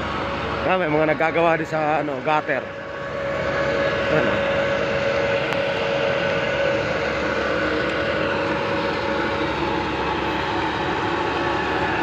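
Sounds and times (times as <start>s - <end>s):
steady machine drone: 0.0s - 12.0s.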